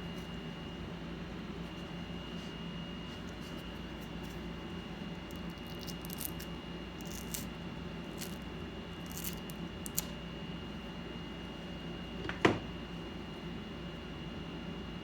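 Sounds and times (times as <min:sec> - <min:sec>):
steady hum: 0:00.0 - 0:14.1.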